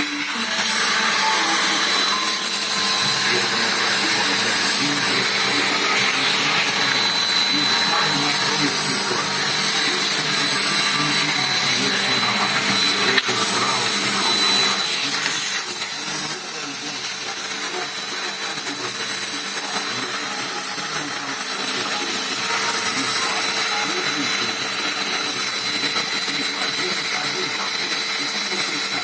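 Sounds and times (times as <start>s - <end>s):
vacuum cleaner whining: 0.0s - 29.0s.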